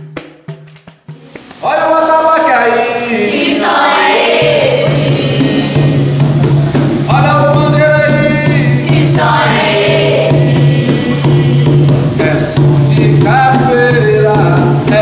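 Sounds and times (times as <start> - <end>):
tambourine-led percussion: 0.0 - 15.0
voices singing: 1.6 - 15.0.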